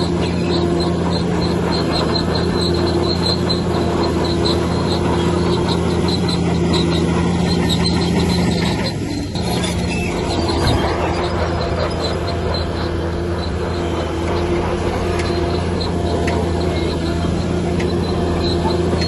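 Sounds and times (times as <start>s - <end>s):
bulldozer diesel engine running: 0.0s - 19.0s
squeaking steel crawler tracks: 0.0s - 19.0s.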